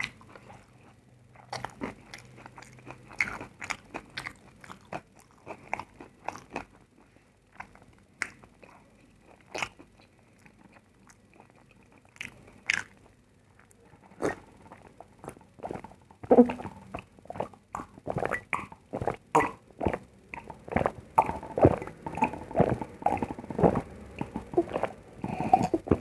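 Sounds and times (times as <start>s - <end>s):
chewing food: 0.0s - 26.0s.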